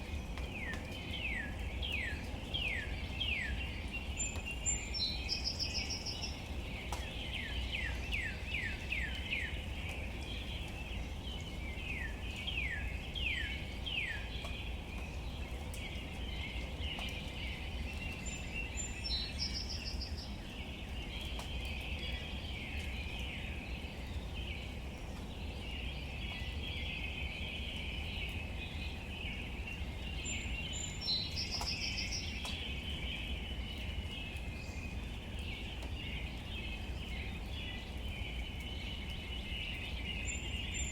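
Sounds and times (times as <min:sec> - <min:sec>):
light rain on leaves: 0:00.0 - 0:40.9.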